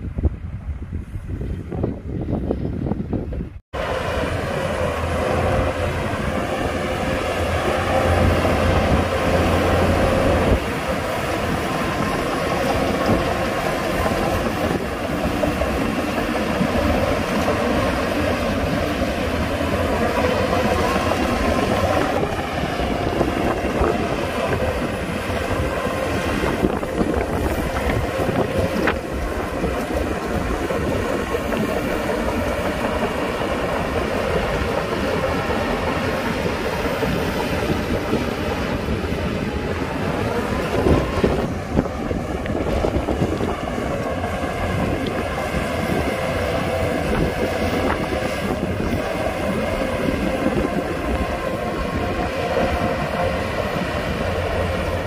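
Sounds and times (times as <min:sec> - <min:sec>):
steel tracks clanking: 0:03.2 - 0:55.0
bulldozer diesel engine: 0:03.8 - 0:55.0.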